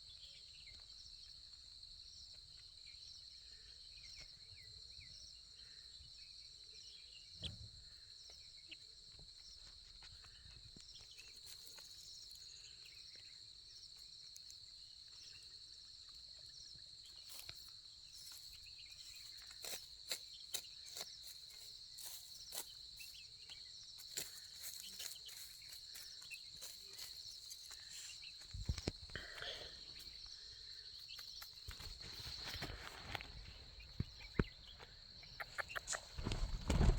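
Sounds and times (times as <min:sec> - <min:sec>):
high-pitched insect trill: 0:06.1 - 0:36.9.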